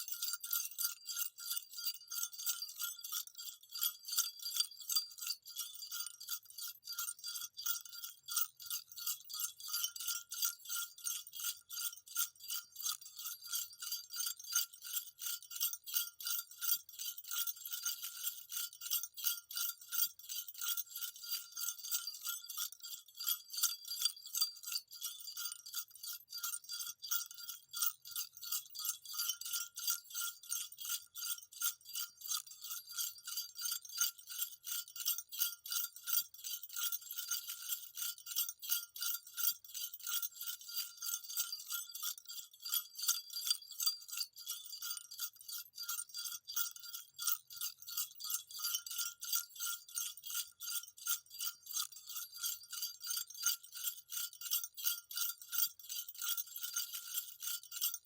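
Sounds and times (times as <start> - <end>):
jingle bells shaken: 0.0 - 58.0.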